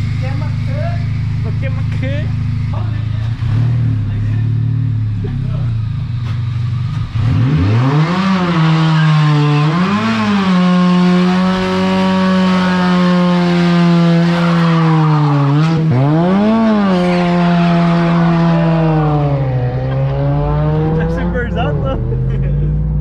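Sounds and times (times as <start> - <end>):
car engine revving during burnout: 0.0 - 23.0.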